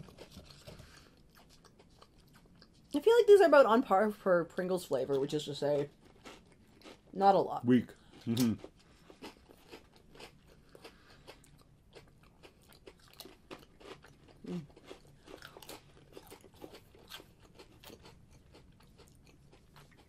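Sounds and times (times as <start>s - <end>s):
people crunching crisps: 0.0s - 2.9s, 5.8s - 20.0s.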